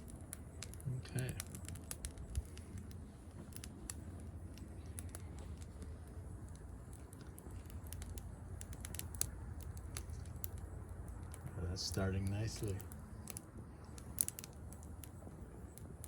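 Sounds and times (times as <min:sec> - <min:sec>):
fire crackling and snapping: 0:00.0 - 0:16.0
low fire rumble: 0:00.0 - 0:16.0.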